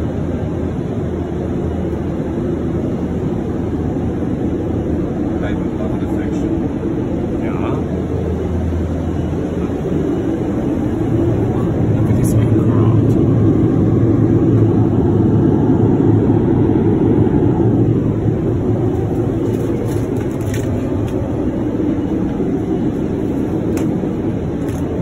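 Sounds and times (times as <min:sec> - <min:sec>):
airplane cabin engine rush: 0:00.0 - 0:25.0.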